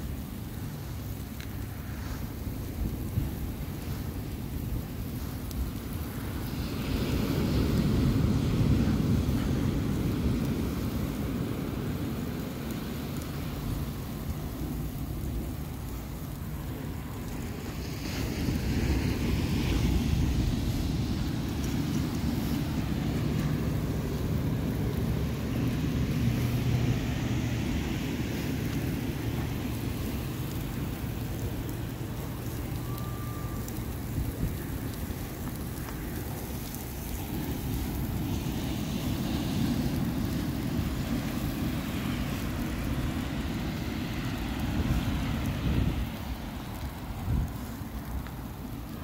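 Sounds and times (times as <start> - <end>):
ocean surf: 0.0 - 49.0
wind rumble: 0.0 - 49.0.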